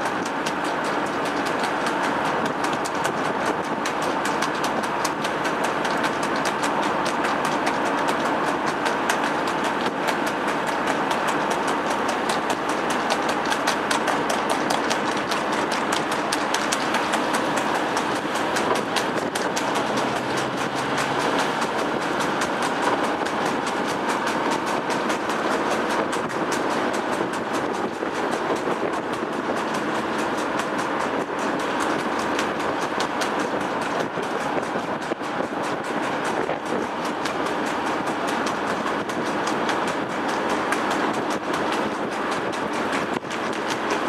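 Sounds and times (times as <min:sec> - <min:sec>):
fast even clicking clatter: 0:00.0 - 0:44.0
road and wind noise: 0:00.0 - 0:44.0.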